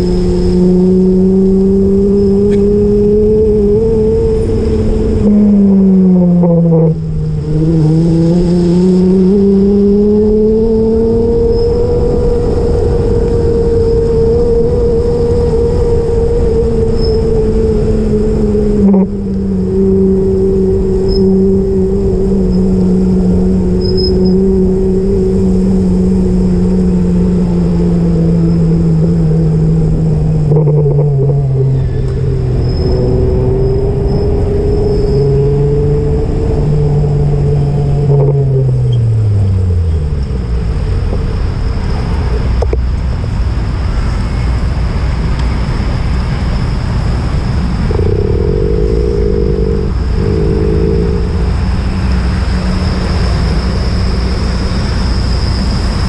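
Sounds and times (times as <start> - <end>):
steady road noise: 0.0 - 56.0
vehicle motor humming: 0.0 - 56.0.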